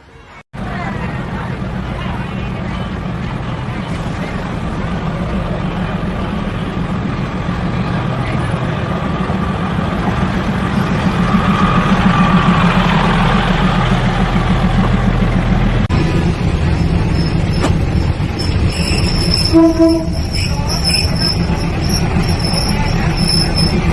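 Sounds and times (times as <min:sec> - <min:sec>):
diesel train engine running: 0:00.6 - 0:23.9.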